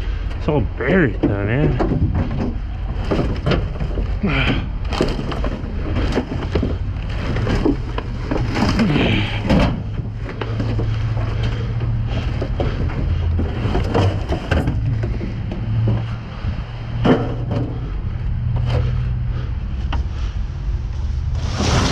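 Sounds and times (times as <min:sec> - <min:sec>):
steady low hum: 0:00.0 - 0:21.9
scrap metal clanking and scraping: 0:00.8 - 0:20.3, 0:21.0 - 0:21.9.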